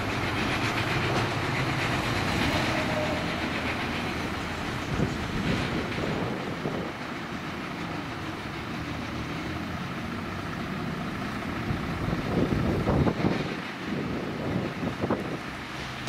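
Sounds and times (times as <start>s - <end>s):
train rumbling on elevated railway: 0.0s - 16.0s.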